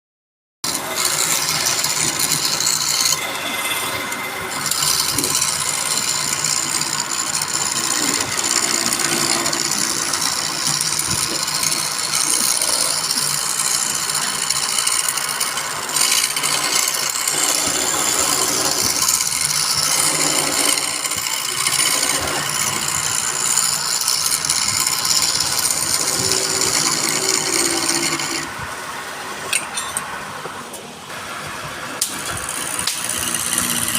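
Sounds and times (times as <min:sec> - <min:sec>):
lathe tool scraping wood: 0:00.6 - 0:28.6, 0:32.0 - 0:33.9.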